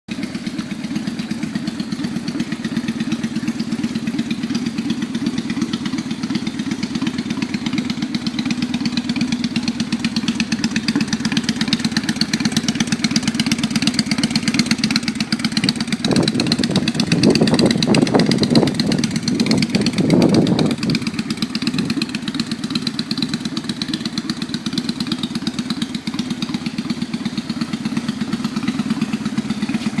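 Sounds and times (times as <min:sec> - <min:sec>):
motorcycle engine idling: 0:00.1 - 0:30.0
motorcycle throttle blips: 0:00.1 - 0:30.0.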